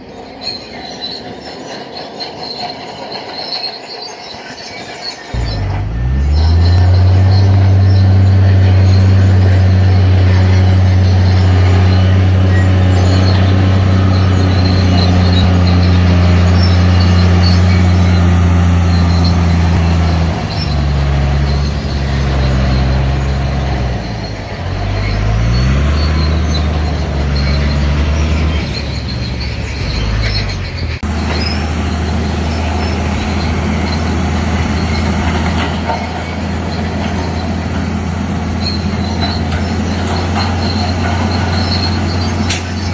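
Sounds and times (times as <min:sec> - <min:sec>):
high-pitched metallic squealing: 0:00.0 - 0:42.9
heavy diesel engine running: 0:05.1 - 0:42.9.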